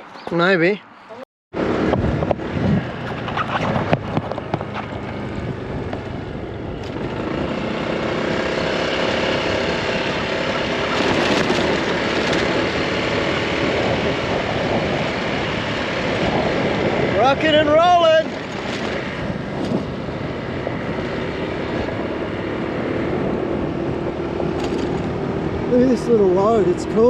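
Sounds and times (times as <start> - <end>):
wind rushing over microphone: 0.0 - 27.0
scooter engine running: 1.6 - 27.0.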